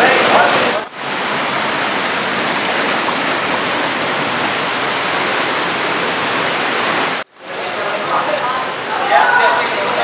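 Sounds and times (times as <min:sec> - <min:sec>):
small waterfall pouring: 0:00.0 - 0:10.0.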